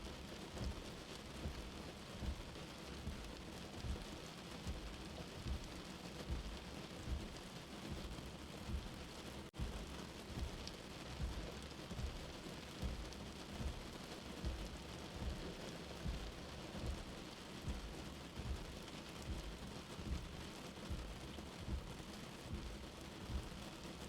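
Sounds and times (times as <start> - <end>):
steady rain: 0.0 - 24.0
low heartbeat thumping: 0.1 - 24.0.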